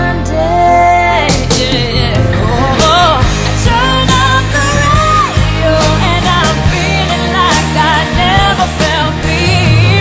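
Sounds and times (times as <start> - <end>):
steady bass line: 0.0 - 10.0.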